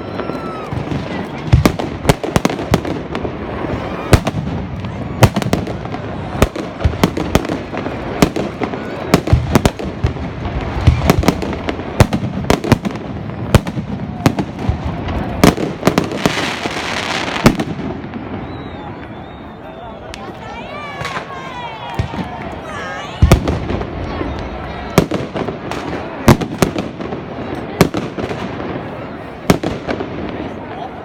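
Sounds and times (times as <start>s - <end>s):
fireworks bangs: 0.0s - 31.0s.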